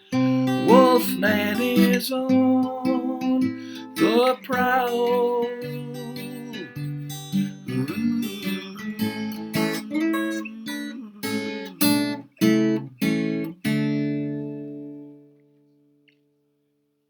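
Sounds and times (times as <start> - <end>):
acoustic guitar playing: 0.0 - 16.5.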